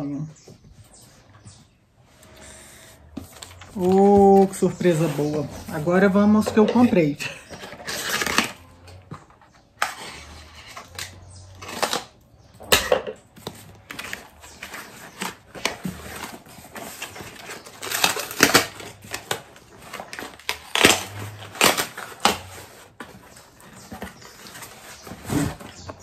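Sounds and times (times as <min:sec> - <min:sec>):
cardboard rustling and scraping: 0:00.5 - 0:12.2, 0:13.4 - 0:26.0.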